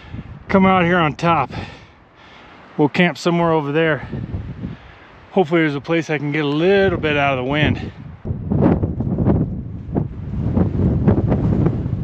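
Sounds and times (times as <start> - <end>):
wind buffeting microphone: 0.0 - 1.9, 3.8 - 12.0.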